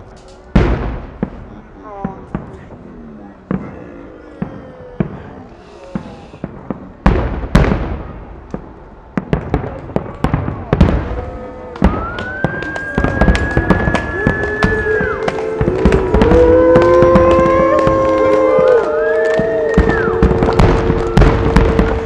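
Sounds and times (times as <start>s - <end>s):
fireworks bursting with sharp bangs: 0.0s - 22.0s
heavy firework booms: 0.5s - 3.8s, 4.4s - 22.0s.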